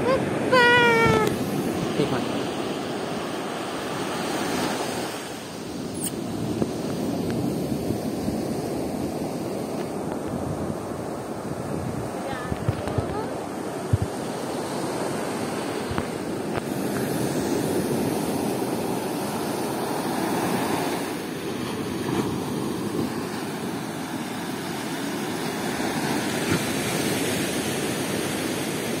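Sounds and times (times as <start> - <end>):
sea surf breaking on beach: 0.0 - 29.0.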